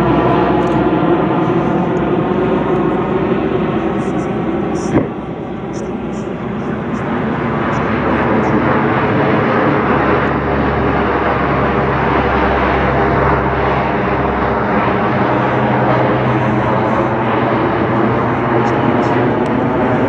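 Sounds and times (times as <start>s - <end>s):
propeller aircraft drone: 0.0s - 20.0s.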